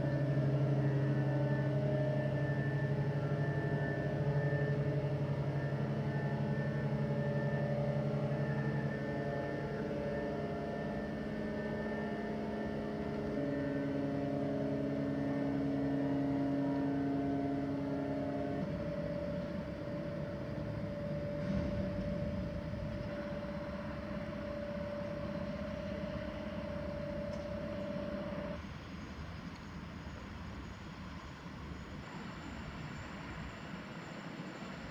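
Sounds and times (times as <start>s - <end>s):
rough engine rumble: 0.0s - 28.6s
diesel engine droning hum: 0.0s - 34.9s.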